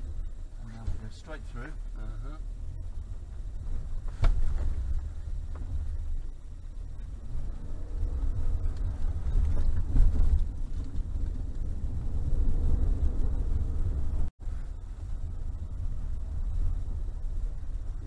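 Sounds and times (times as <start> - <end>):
low rumble of engine and water: 0.0 - 18.0.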